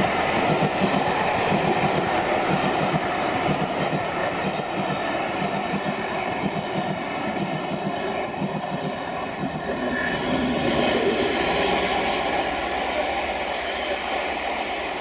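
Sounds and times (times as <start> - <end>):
diesel locomotive approaching: 0.0 - 15.0
train wheels clickety-clack: 0.0 - 15.0.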